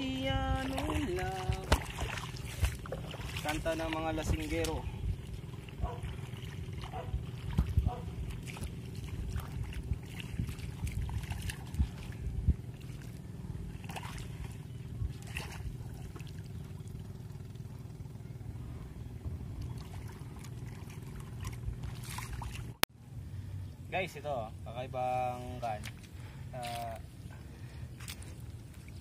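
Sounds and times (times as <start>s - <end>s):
footsteps splashing through water: 0.0s - 17.0s, 19.6s - 22.8s, 25.6s - 29.0s
low rumble: 0.0s - 23.9s.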